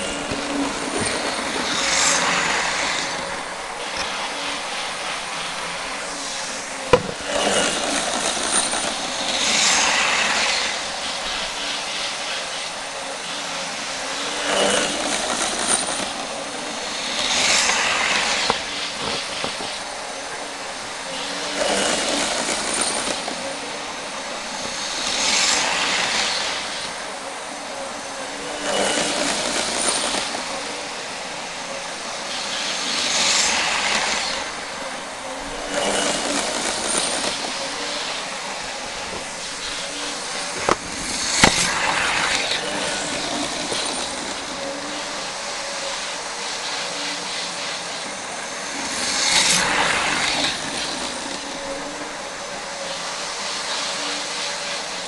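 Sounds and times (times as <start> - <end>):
model train motors whirring: 0.0 - 55.0
model train wheels clattering: 0.0 - 55.0.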